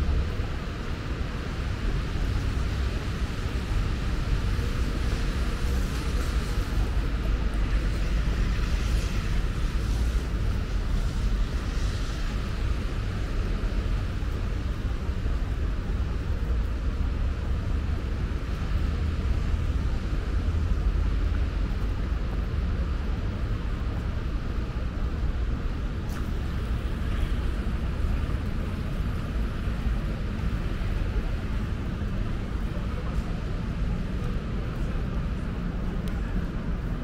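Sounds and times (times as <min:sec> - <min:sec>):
traffic rumble: 0:00.0 - 0:37.0
rain hissing on wet pavement: 0:00.2 - 0:22.3, 0:26.0 - 0:37.0.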